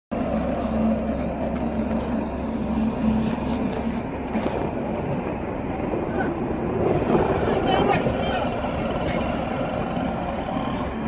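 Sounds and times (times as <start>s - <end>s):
boat engine running: 0.1s - 11.0s.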